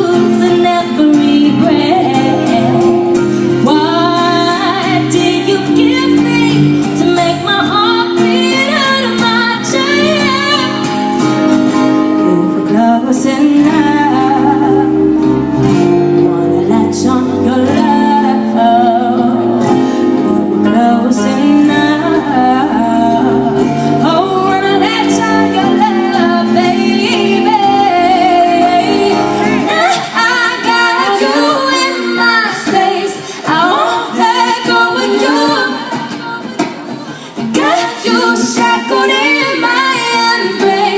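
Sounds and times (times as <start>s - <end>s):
woman singing pop song: 0.0s - 40.9s.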